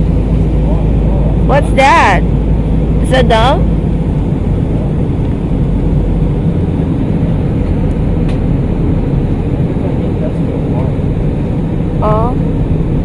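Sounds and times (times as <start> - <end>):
airliner cabin engine noise: 0.0 - 13.0.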